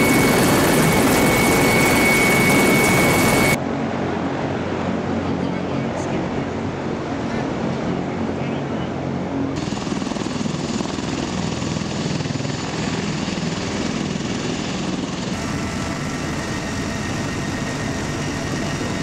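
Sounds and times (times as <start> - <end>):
helicopter cabin noise: 0.0 - 3.6, 4.7 - 19.0
helicopter rotors and turbines: 0.0 - 19.0.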